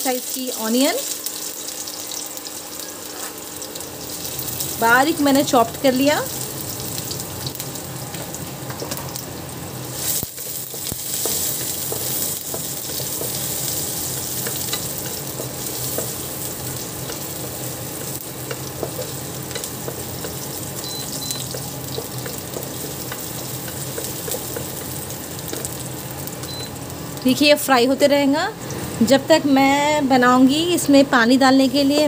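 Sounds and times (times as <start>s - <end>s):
onion sizzling in hot oil: 0.0s - 32.0s.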